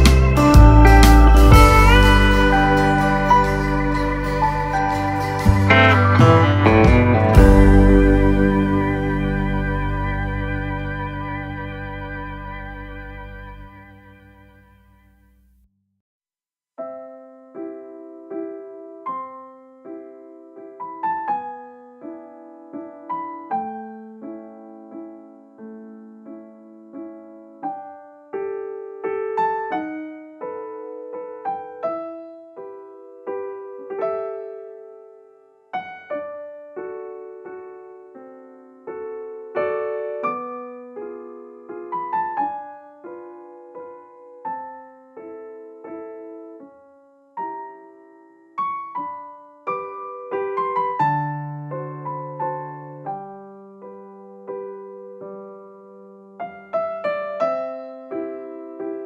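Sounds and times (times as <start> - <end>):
gentle piano melody: 0.0 - 14.9, 16.8 - 59.0.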